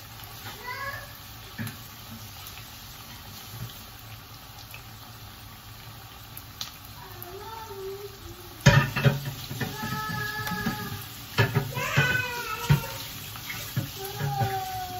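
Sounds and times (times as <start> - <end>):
food sizzling in hot oil: 0.0 - 14.9.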